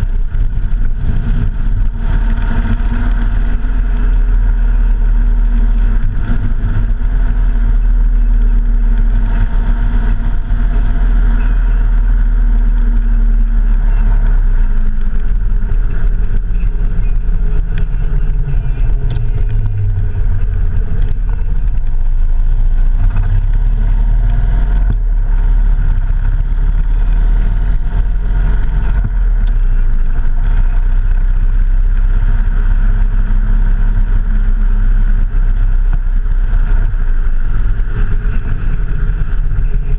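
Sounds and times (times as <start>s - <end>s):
vehicle engine running: 0.0s - 39.9s
wind rumble: 0.0s - 39.9s.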